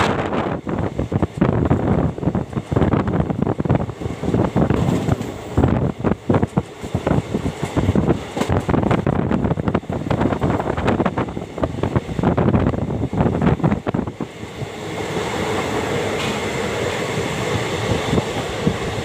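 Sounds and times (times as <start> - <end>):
moving train running: 0.0 - 19.0
wind buffeting microphone: 0.0 - 19.0.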